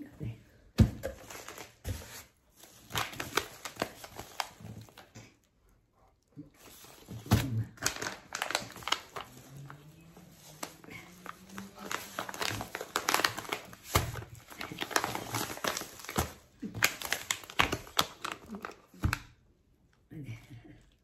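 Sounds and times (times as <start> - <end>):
plastic pouches crinkling: 0.9 - 5.1, 6.6 - 19.3.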